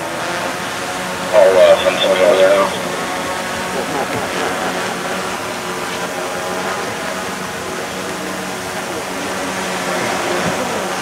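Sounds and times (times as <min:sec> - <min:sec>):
drone propellers humming: 0:00.4 - 0:11.0.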